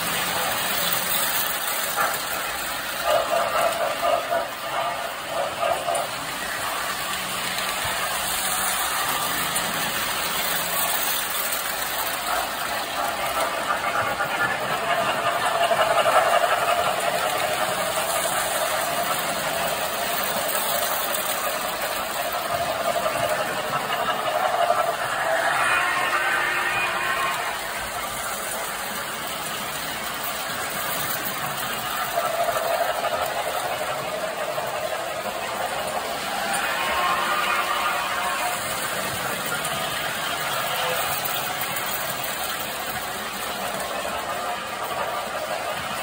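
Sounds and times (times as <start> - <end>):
toy trains running on track: 0.0 - 46.0.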